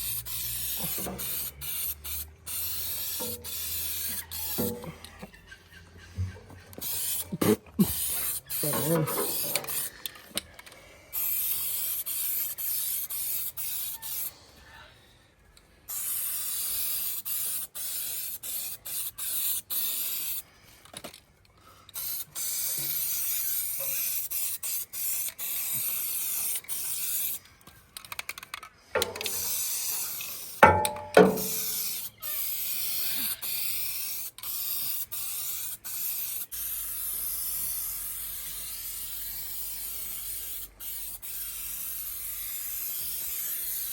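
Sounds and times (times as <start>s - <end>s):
spray paint hissing: 0.0s - 5.0s, 6.7s - 10.1s, 11.1s - 14.3s, 15.9s - 20.4s, 21.9s - 27.5s, 28.1s - 43.9s.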